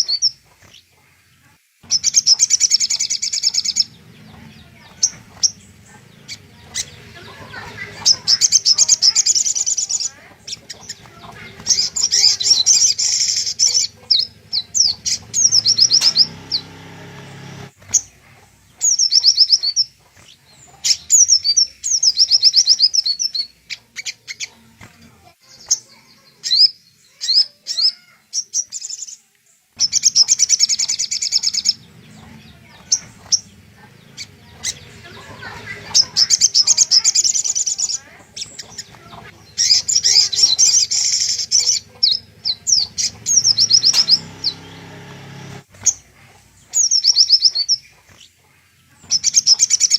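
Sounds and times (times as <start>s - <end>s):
bird chirping trills: 0.0s - 49.9s.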